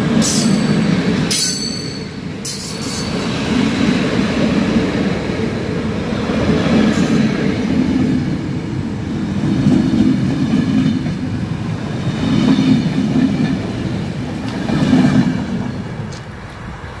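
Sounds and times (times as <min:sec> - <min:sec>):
train wheels rumbling and clacking: 0:00.0 - 0:17.0.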